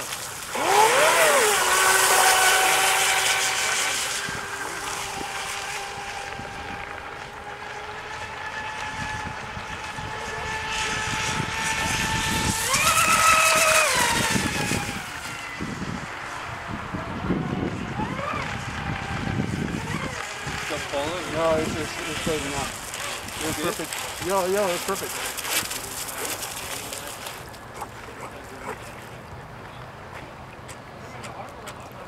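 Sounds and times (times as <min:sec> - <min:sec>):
model boat motor whine: 0:00.0 - 0:28.4.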